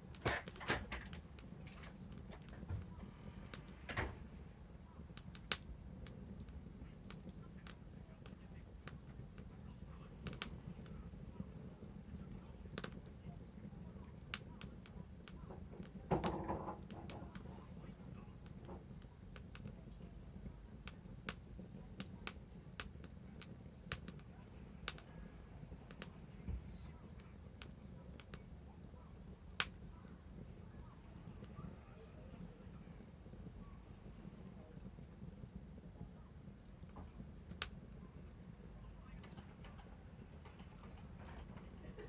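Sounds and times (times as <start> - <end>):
low steady background: 0.0 - 42.0
wood fire crackling: 0.0 - 42.0.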